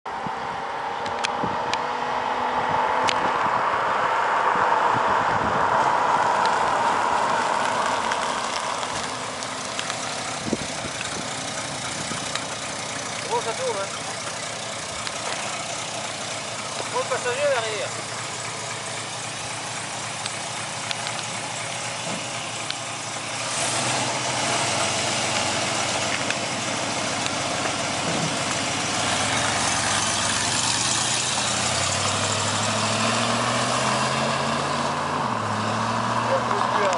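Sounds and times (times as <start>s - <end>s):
car engine running: 4.5s - 36.9s.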